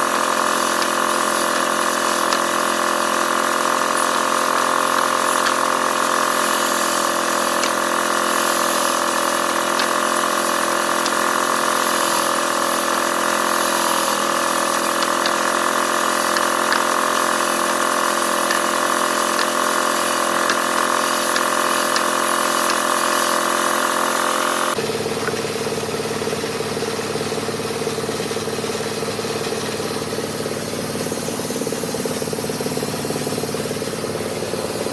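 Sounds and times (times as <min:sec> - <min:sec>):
lower steady machine noise: 0:00.0 - 0:34.9
woodworking machine humming: 0:00.0 - 0:34.9.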